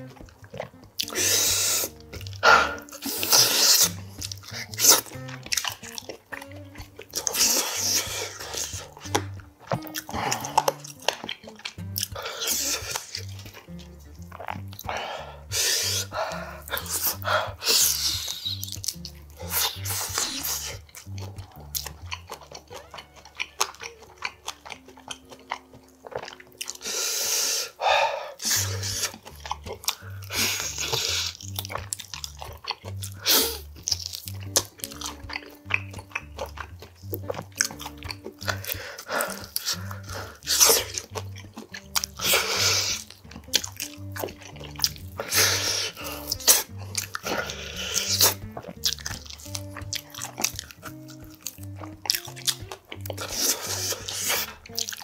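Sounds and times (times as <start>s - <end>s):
background music with bass line: 0.0s - 27.3s, 28.4s - 55.0s
chewing and biting: 0.0s - 55.0s.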